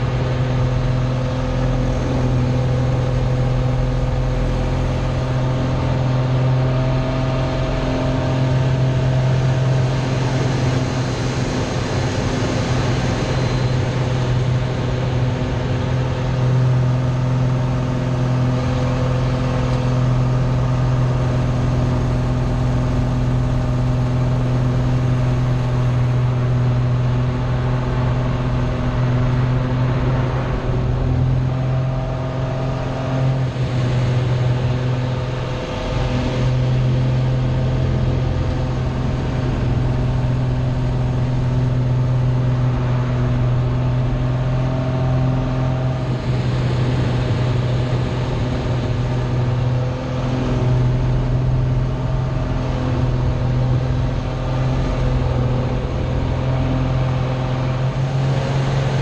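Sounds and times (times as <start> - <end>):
aircraft engine droning: 0.0 - 59.0.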